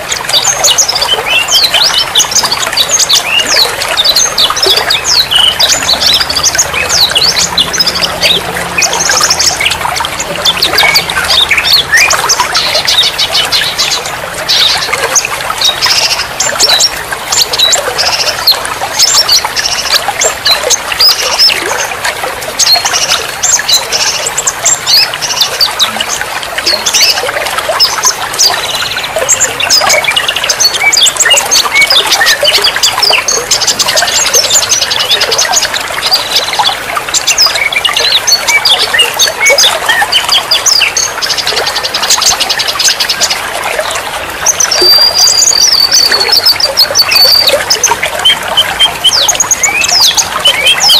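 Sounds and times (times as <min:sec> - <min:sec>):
songbirds chirping and trilling: 0:00.0 - 0:50.9.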